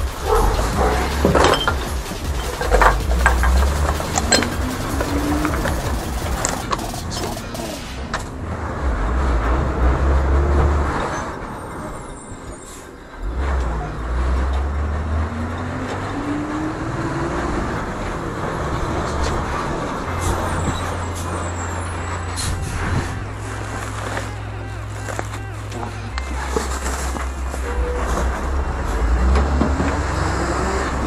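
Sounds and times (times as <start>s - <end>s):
compactor hydraulics whine: 0.0s - 31.0s
garbage truck engine rumbling: 0.0s - 31.0s.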